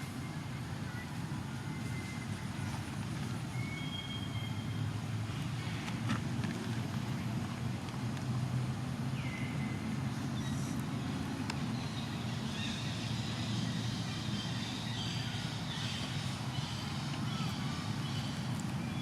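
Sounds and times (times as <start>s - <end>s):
low engine hum: 1.2s - 19.0s.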